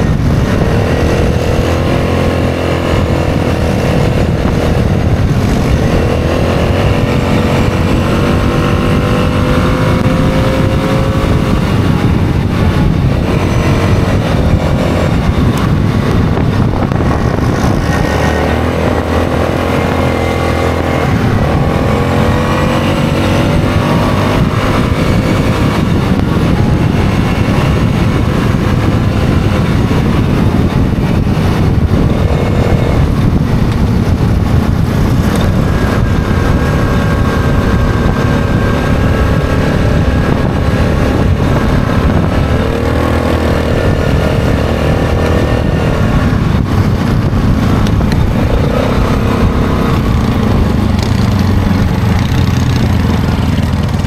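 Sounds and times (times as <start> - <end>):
atv engine revving: 0.0 - 54.0
gravel road noise: 0.0 - 54.0
wind rush: 0.0 - 54.0.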